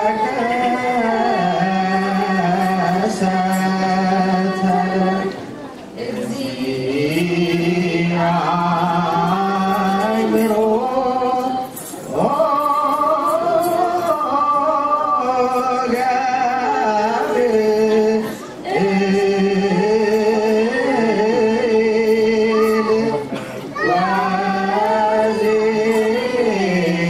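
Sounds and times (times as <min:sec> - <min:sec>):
group singing spiritual song: 0:00.0 - 0:27.0.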